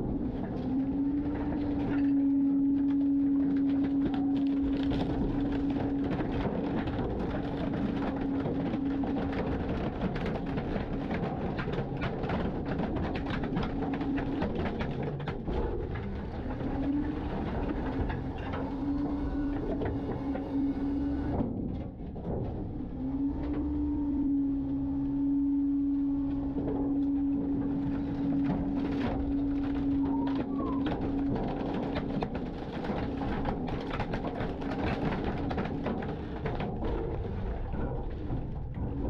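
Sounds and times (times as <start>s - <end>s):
garbage truck whine: 0.0s - 39.0s.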